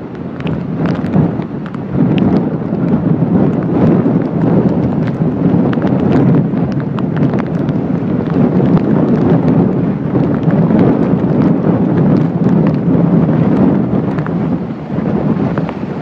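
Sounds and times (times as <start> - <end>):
surf washing through: 0.0 - 16.0
wind buffeting microphone: 0.0 - 16.0.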